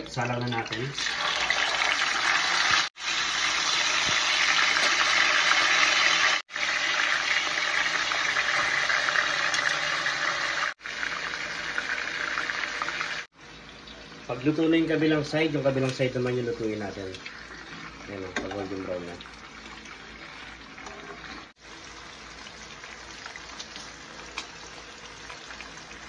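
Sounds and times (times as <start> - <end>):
pork sizzling in frying pan: 0.0 - 26.0.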